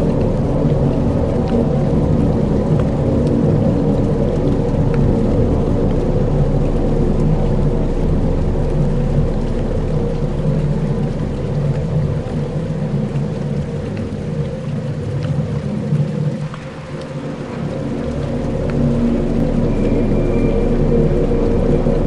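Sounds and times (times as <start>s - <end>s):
low rumbling drone: 0.0s - 22.0s
rain-like hiss: 0.0s - 22.0s
faint ticks: 2.7s - 22.0s.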